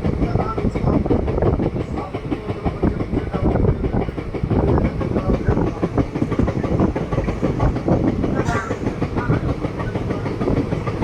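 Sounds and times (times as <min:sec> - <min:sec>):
train coach rumbling: 0:00.0 - 0:11.0
wheels clattering over rails: 0:00.0 - 0:11.0.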